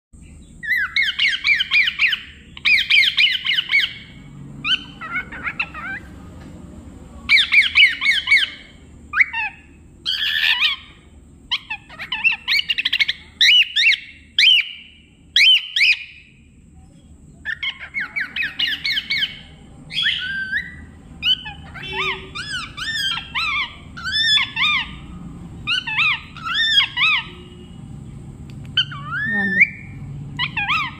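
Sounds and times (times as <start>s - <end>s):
cockatiel chirping and warbling: 0.5s - 6.1s, 7.3s - 16.4s, 17.4s - 27.6s, 28.7s - 30.9s.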